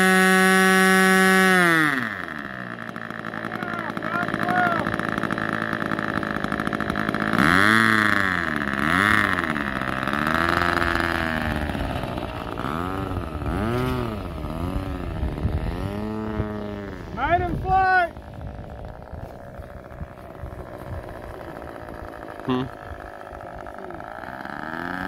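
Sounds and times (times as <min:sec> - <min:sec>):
model plane engine revving: 0:00.0 - 0:25.0.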